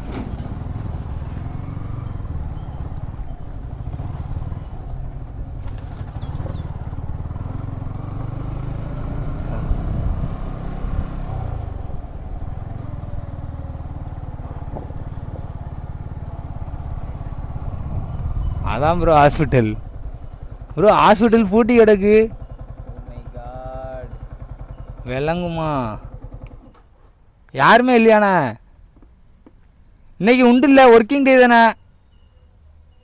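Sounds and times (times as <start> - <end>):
motorcycle engine running: 0.2 - 27.0.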